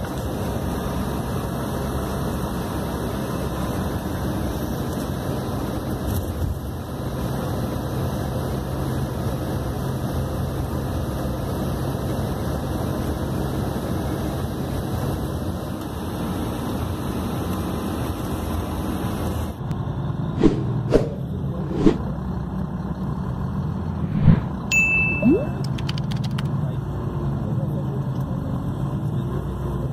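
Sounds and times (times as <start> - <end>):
bus engine drone: 0.0 - 29.9.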